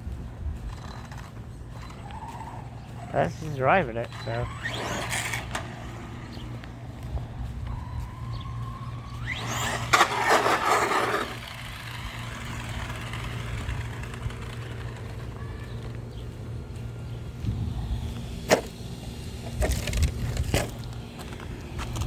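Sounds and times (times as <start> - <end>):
tyres on gravel: 0.0 - 22.0
electric motor whining: 0.6 - 22.0.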